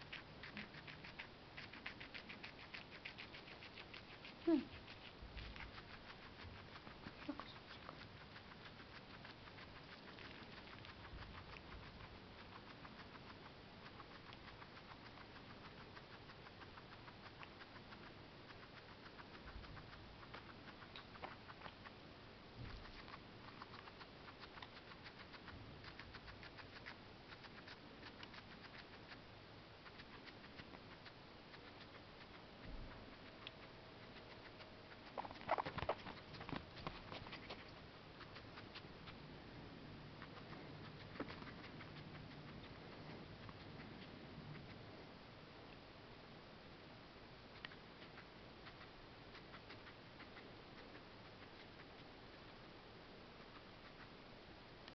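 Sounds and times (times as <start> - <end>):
guinea pig chewing: 0.0 - 54.9.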